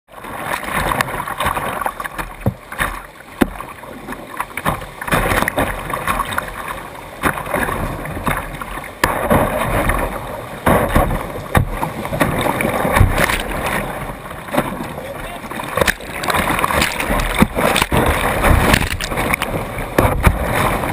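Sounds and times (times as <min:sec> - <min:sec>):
paddle strokes: 0:00.1 - 0:20.9
whitewater rushing and splashing: 0:00.1 - 0:20.9
water slapping against camera: 0:00.4 - 0:20.9.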